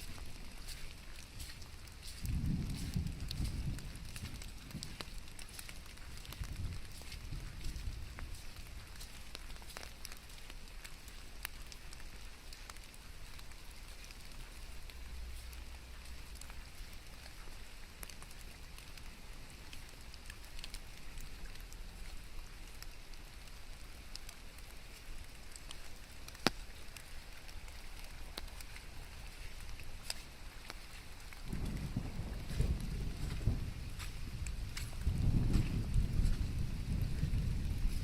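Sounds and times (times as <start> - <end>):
rain falling steadily: 0.0 - 38.0
raindrops ticking: 0.0 - 38.0.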